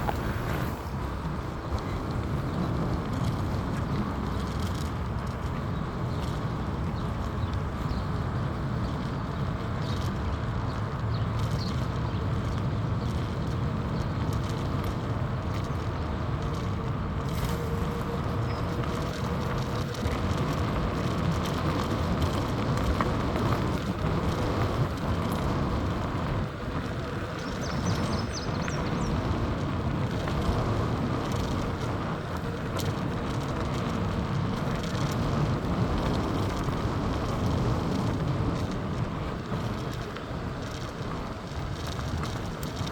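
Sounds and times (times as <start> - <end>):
bicycle tyres rolling on trail: 0.0 - 42.9.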